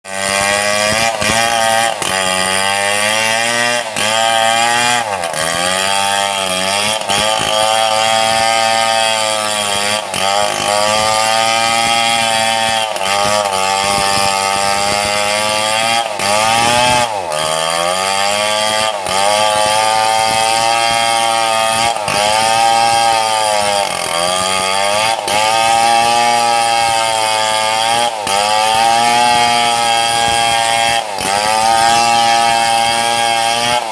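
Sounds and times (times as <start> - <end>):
chainsaw cutting log: 0.0 - 33.9.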